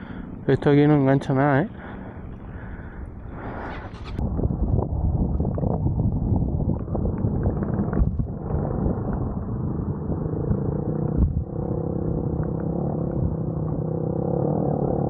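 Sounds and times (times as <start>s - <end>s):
motorcycle engine running: 1.2s - 5.3s, 6.2s - 15.0s.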